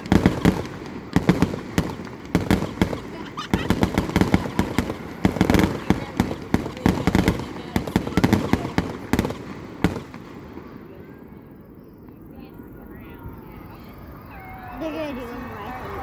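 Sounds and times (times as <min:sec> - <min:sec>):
fireworks cracking and booming: 0:00.0 - 0:13.5.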